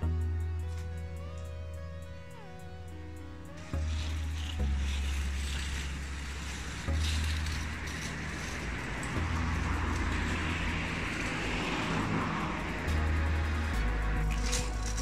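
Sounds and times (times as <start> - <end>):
deep sustained bass notes: 0.0 - 15.0
steady rushing noise: 0.0 - 15.0.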